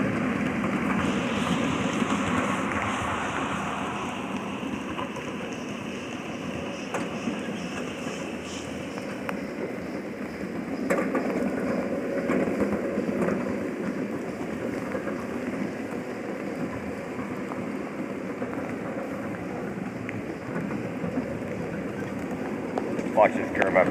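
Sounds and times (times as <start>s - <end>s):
ride-on train rumbling on track: 0.0s - 23.9s.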